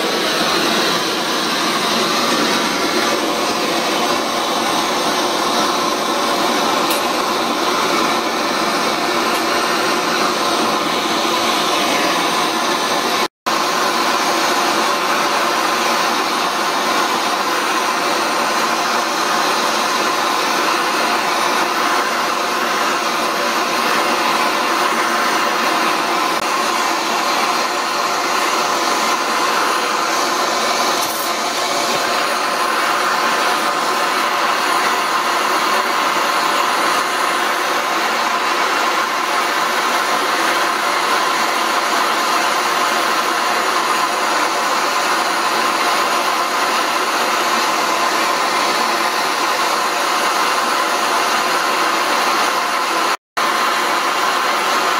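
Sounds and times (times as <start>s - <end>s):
gas torch hissing: 0.0s - 54.9s.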